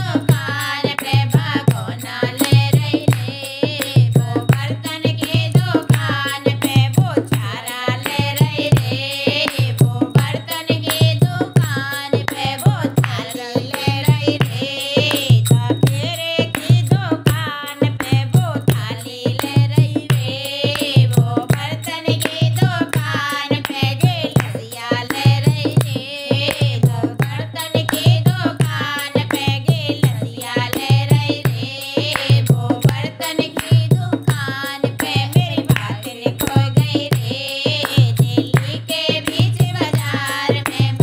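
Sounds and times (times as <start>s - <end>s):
steady drum rhythm: 0.0s - 41.0s.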